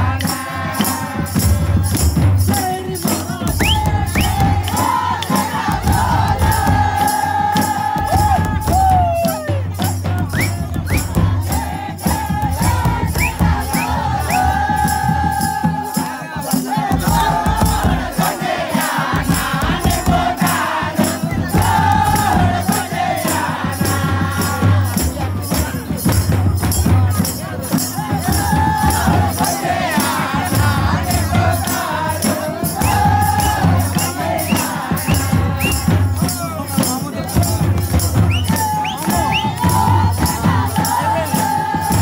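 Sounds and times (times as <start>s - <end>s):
group of voices singing: 0.0s - 42.0s
hand drums: 0.0s - 42.0s
steady rattling beat: 0.0s - 42.0s.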